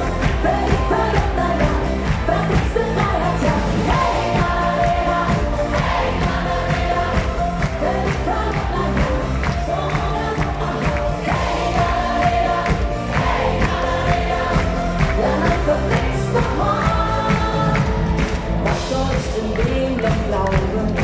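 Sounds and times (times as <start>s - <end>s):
live pop band playing: 0.0s - 21.0s
woman singing lead: 0.0s - 21.0s.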